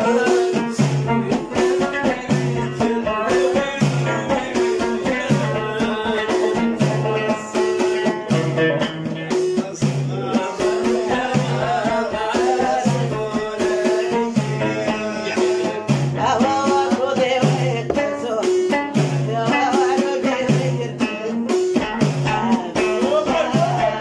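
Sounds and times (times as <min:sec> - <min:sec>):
hand percussion beat: 0:00.0 - 0:24.0
person singing: 0:00.0 - 0:24.0.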